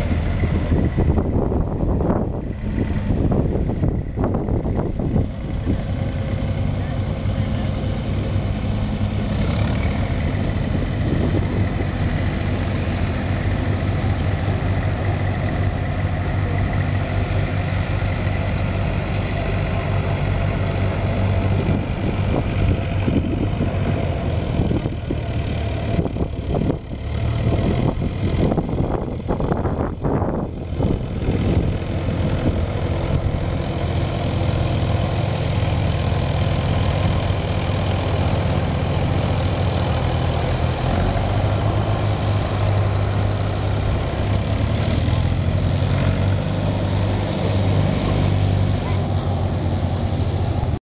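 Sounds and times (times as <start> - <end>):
tractor engine running: 0.0 - 50.8.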